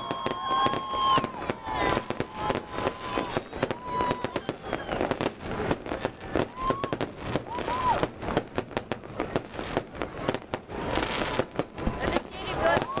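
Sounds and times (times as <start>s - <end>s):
fireworks high whistling tones: 0.0s - 8.4s, 9.6s - 13.0s
fireworks bangs and crackles: 0.0s - 13.0s.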